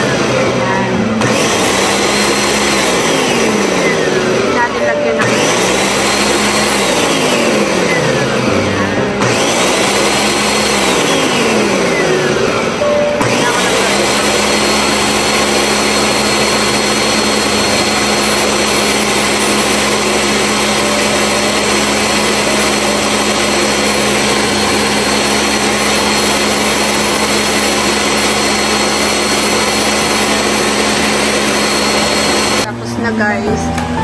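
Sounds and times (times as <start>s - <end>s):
blender motor humming: 0.0s - 34.0s.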